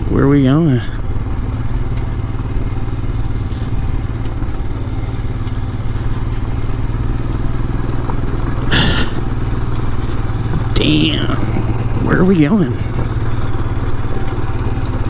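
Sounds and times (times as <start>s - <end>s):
motorcycle engine running: 0.0s - 15.0s
tyres rumbling on gravel: 0.0s - 15.0s.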